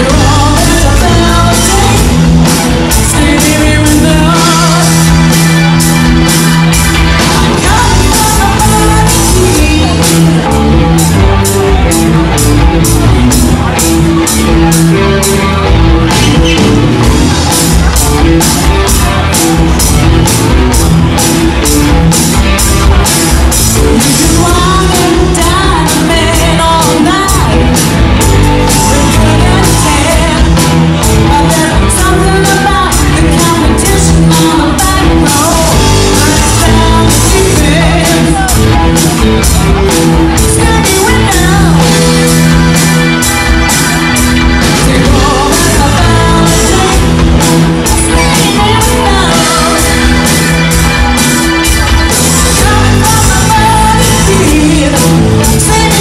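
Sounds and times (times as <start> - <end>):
bass guitar: 0.0 - 56.0
electric guitars: 0.0 - 56.0
lead singer: 0.0 - 56.0
steady drum beat: 0.0 - 56.0.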